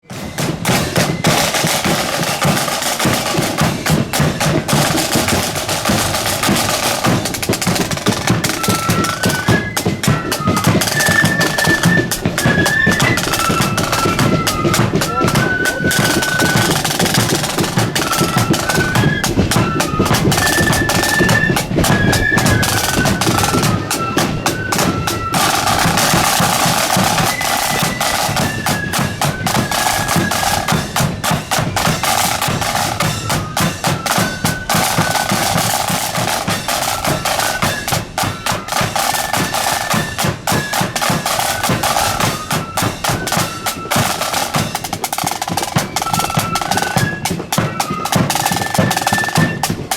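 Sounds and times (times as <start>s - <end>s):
marching band melody: 0.0s - 49.9s
snare drumming: 0.0s - 49.9s.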